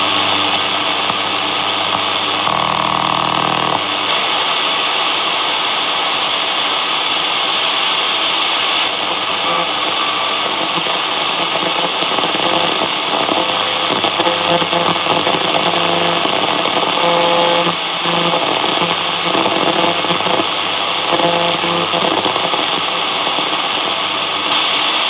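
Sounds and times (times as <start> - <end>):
buzzy radio tone: 0.0 - 4.3, 8.8 - 25.0
shortwave radio static: 0.0 - 5.1, 8.4 - 25.0.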